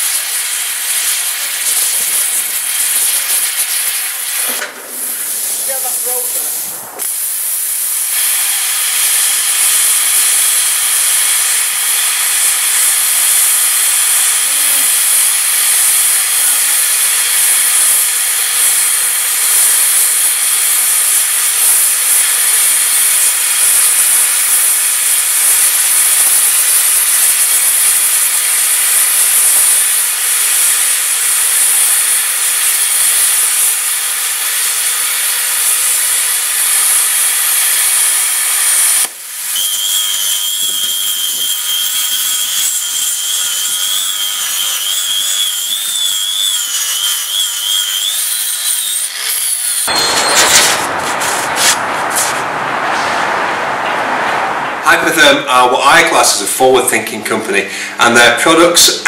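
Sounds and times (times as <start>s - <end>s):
plasma cutter hissing: 0.0s - 52.5s.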